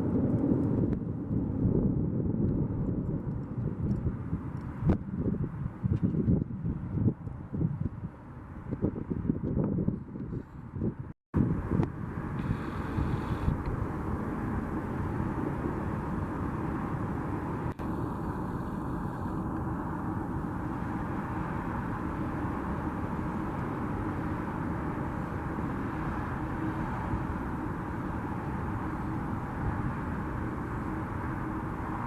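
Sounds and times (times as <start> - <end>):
jet engine roar: 0.0 - 5.9, 11.4 - 32.0.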